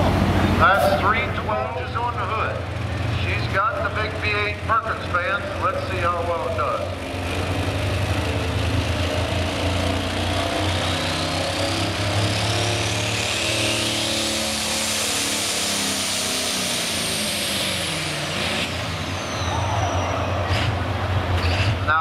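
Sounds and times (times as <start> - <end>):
diesel tractor engine at full throttle: 0.0 - 22.0
high engine whine: 0.0 - 22.0.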